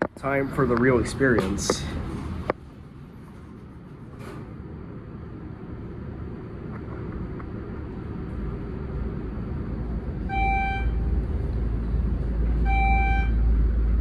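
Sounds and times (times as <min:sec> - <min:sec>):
elevator ride rumble: 0:00.0 - 0:14.0.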